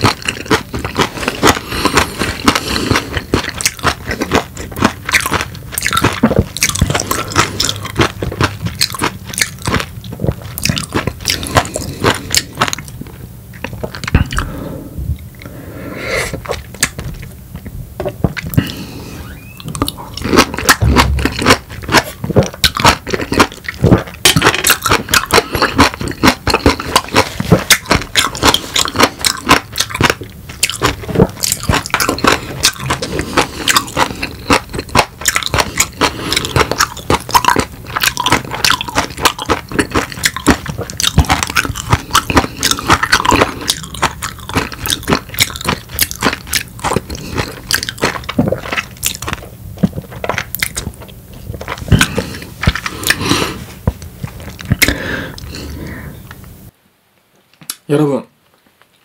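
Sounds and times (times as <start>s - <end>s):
person chewing lemon: 0.0s - 56.6s.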